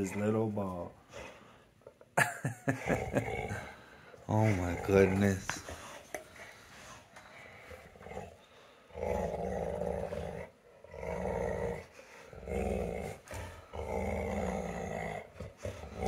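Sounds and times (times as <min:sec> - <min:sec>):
dogs growling: 0:02.6 - 0:16.0.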